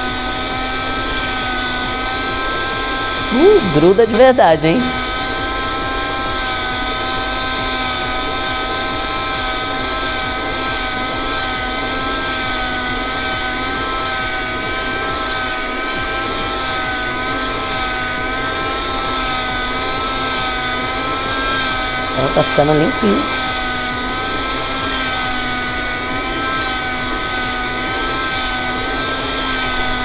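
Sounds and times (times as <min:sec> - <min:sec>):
handheld vacuum motor whine: 0:00.0 - 0:30.0.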